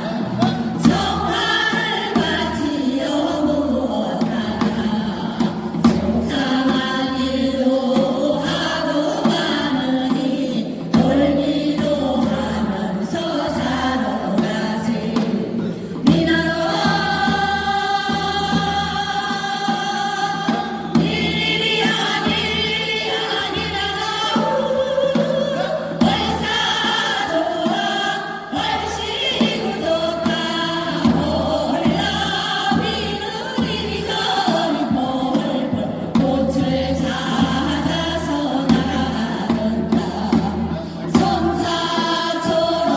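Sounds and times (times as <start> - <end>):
choir singing long held notes: 0.0 - 42.9.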